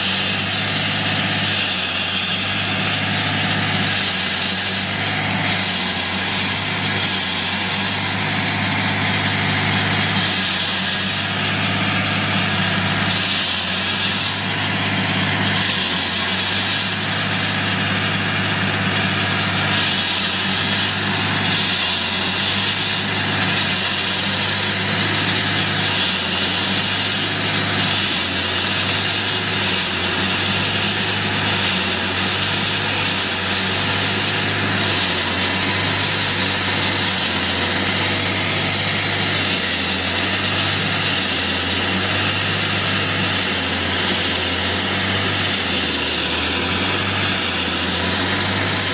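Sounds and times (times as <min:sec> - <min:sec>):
concrete saw diesel engine running: 0:00.0 - 0:48.9.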